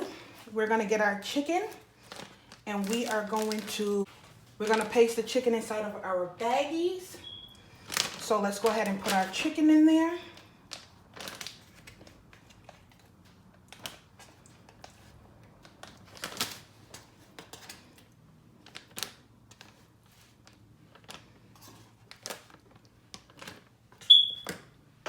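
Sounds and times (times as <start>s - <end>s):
plastic bag rustling and crinkling: 0.0s - 5.5s, 7.8s - 23.8s.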